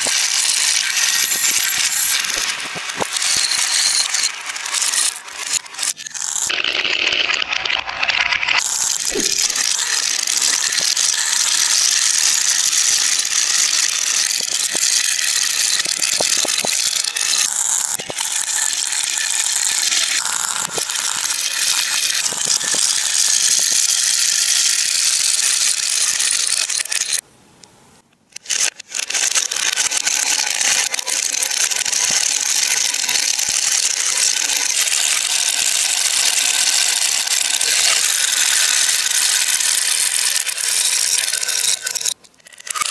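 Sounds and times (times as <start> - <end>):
marbles rattling along track: 0.0 - 27.2, 28.4 - 42.9.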